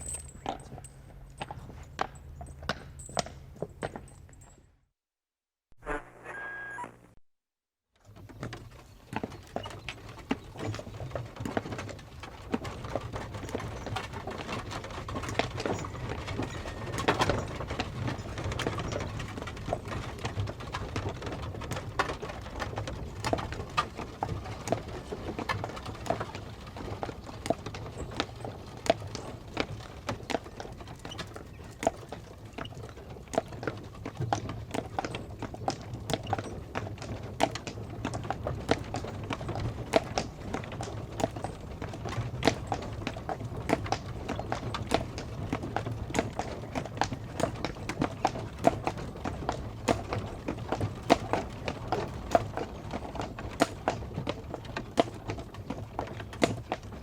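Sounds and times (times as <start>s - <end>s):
horse hooves clip-clopping: 0.0s - 4.7s, 8.0s - 57.0s.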